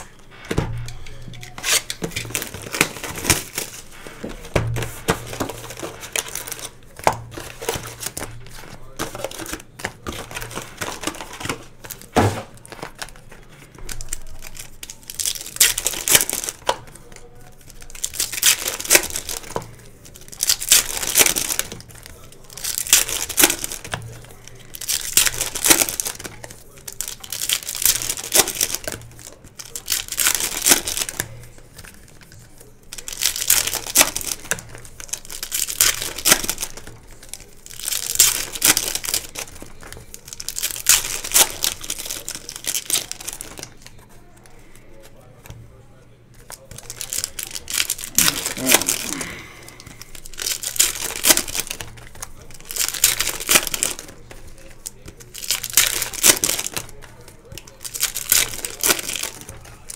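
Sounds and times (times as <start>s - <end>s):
card pack wrappers crinkling and tearing: 0.0s - 45.6s, 46.3s - 59.9s.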